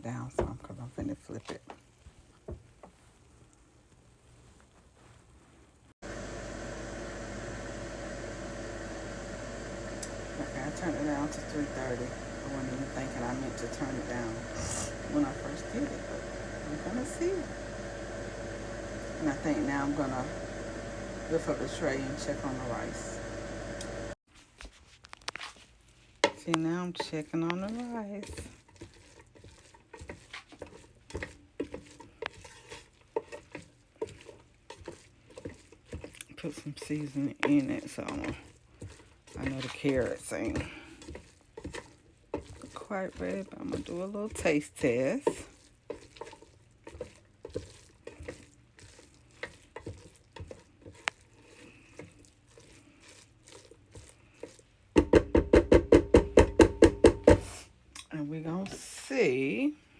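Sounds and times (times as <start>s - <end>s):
utensil stirring in a pot: 0.2s - 57.8s
utensil knocking and scraping pot: 6.1s - 24.0s, 26.2s - 59.0s.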